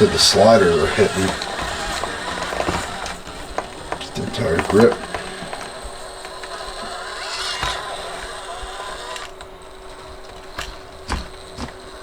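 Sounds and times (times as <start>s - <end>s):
sharp knocks on terrain: 0.0s - 12.0s
small electric motor whining: 0.0s - 12.0s.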